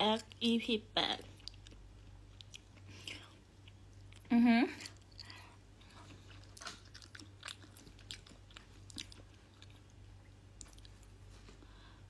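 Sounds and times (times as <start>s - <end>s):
low steady hum: 0.0s - 12.0s
person chewing crunchy food: 1.2s - 11.6s.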